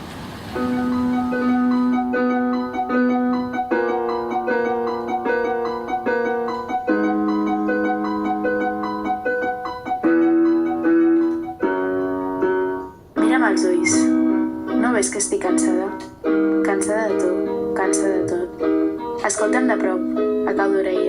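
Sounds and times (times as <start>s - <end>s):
piano playing repeated chords: 0.0s - 21.0s.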